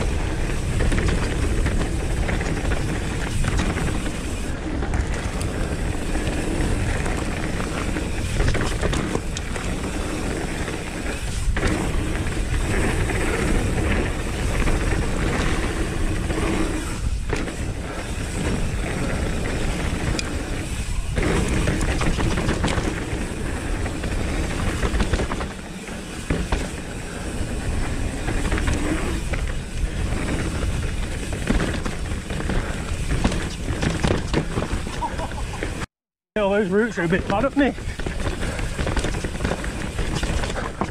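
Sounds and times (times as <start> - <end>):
bike chain and frame rattling: 0.0 - 40.9
tyres rumbling over dirt: 0.0 - 40.9.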